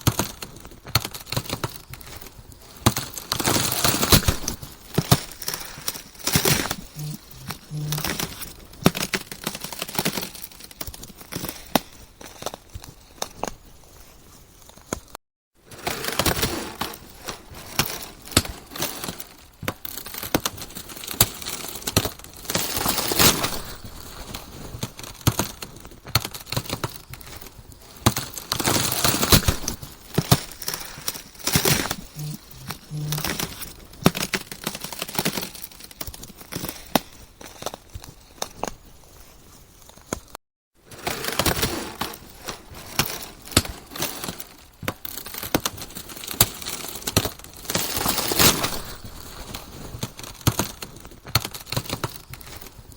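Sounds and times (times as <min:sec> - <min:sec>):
ice cracking and crunching: 0:00.0 - 0:15.1, 0:15.7 - 0:52.9.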